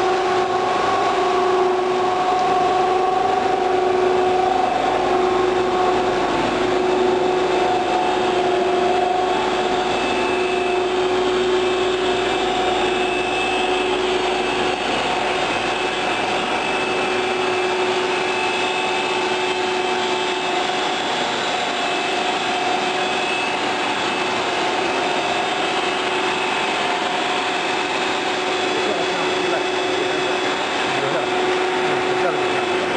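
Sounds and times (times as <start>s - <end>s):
machinery hum: 0.0s - 32.9s
motors and pumps rushing: 0.0s - 32.9s
whining tones: 0.0s - 32.9s.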